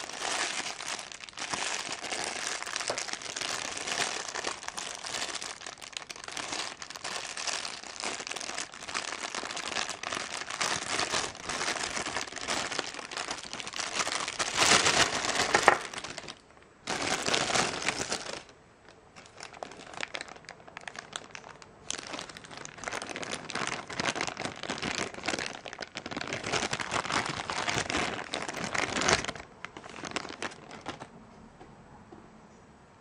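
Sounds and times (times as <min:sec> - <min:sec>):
plastic bag crinkling: 0:00.0 - 0:31.1.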